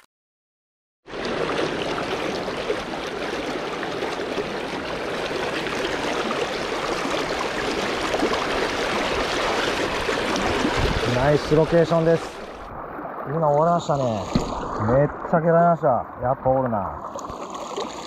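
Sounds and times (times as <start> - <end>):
river water rushing: 1.1 - 16.3.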